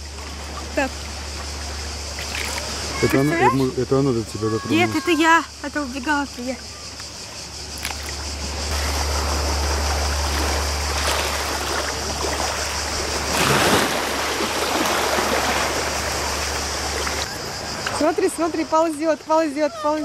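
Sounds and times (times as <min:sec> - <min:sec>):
sea water rushing: 0:00.0 - 0:06.0, 0:06.6 - 0:20.0.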